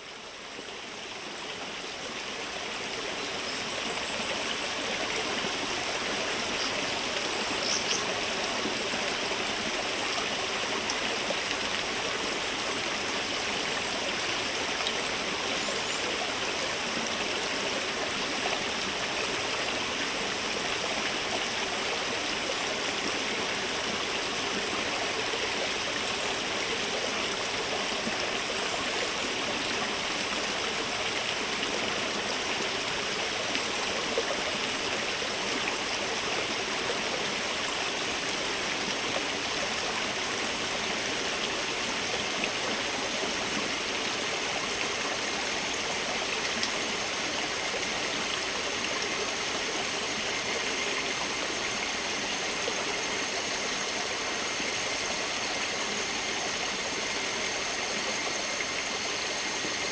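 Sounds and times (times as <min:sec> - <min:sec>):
stream running: 0:00.0 - 0:59.9.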